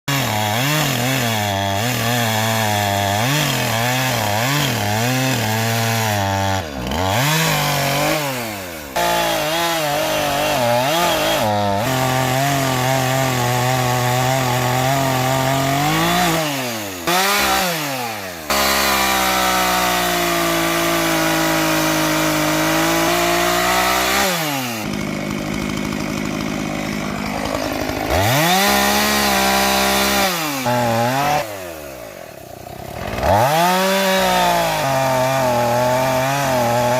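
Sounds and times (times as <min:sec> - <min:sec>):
chainsaw cutting logs: 0:00.0 - 0:36.9.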